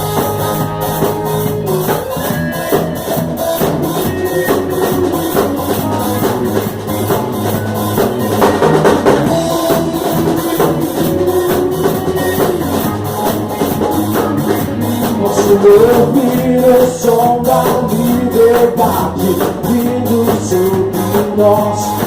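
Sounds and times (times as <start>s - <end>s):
held melodic line: 0.0s - 20.0s
bass: 0.0s - 22.0s
drum kit steady beat: 0.0s - 22.0s.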